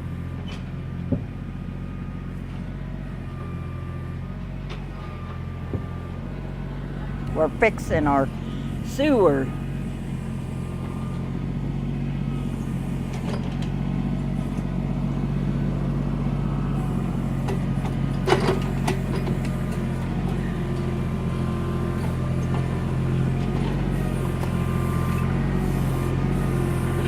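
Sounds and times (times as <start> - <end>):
backhoe engine running: 0.0 - 27.0.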